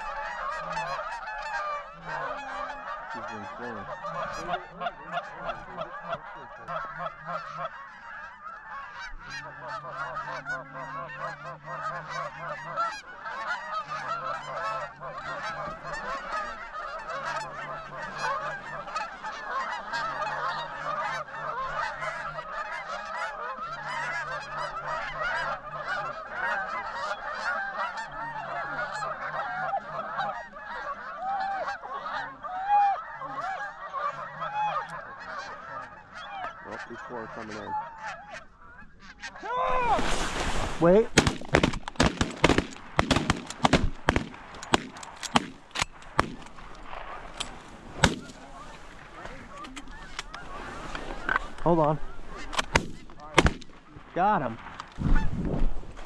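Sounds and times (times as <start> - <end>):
geese honking: 0.0 - 56.0.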